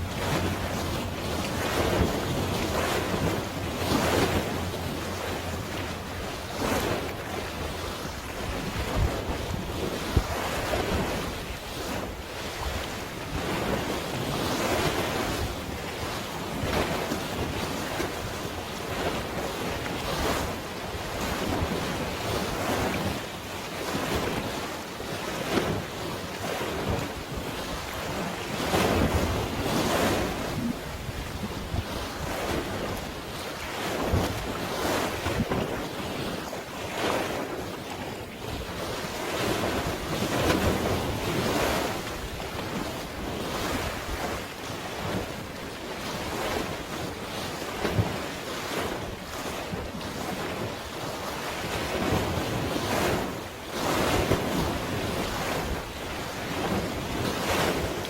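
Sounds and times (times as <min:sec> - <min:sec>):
sea waves washing in: 0:00.0 - 0:58.0
wind buffeting microphone: 0:00.0 - 0:58.0.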